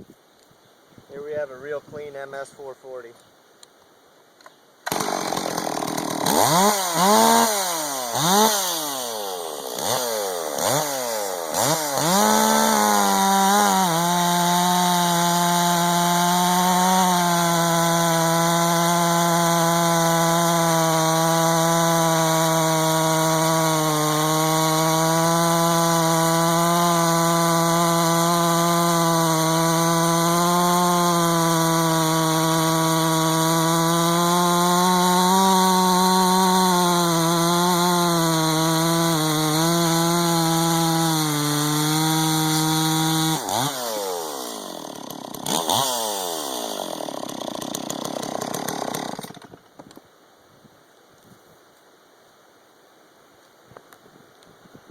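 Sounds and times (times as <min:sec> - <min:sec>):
chainsaw revving and cutting wood: 0:04.8 - 0:49.6.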